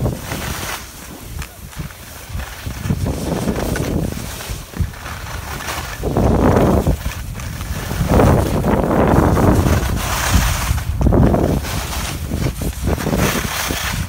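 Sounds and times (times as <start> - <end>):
skis sliding over snow: 0.0 - 14.0
wind gusting on microphone: 0.0 - 14.0.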